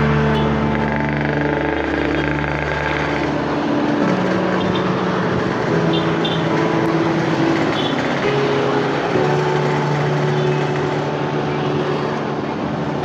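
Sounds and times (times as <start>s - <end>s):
slow background music: 0.0s - 13.0s
street traffic: 0.0s - 13.0s.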